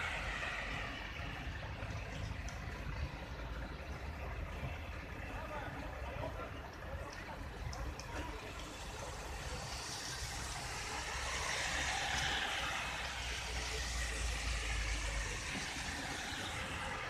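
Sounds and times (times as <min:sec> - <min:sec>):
vehicle engine rumble with hiss: 0:00.0 - 0:17.0.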